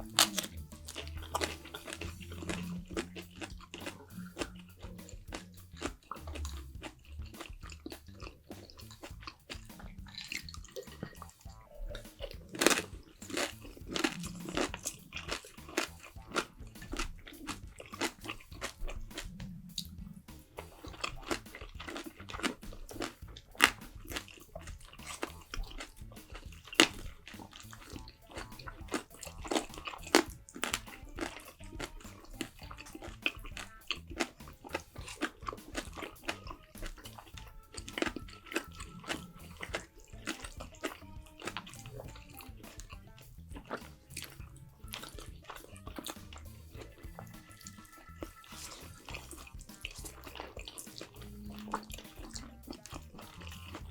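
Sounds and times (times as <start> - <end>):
person chewing and crunching: 0.0 - 53.9.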